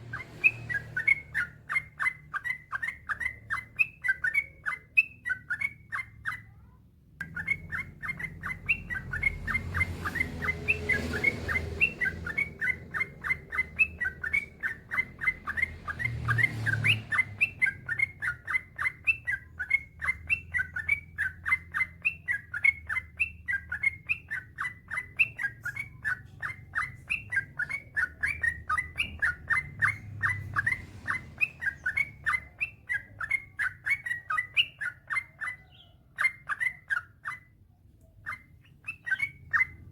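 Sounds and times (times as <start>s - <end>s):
bulbul singing chirping notes: 7.2s - 37.5s, 38.1s - 39.9s.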